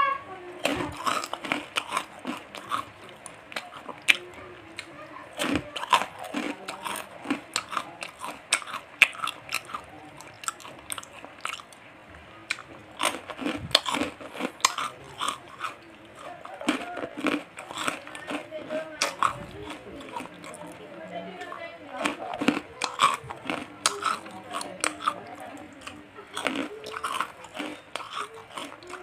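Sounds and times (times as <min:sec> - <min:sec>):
crackers crunching: 0:00.6 - 0:29.0.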